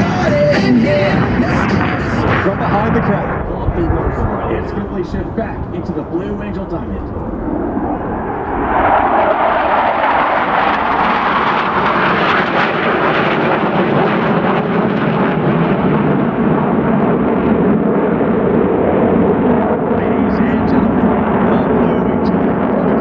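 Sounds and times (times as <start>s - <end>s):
jet roar: 0.0s - 23.0s.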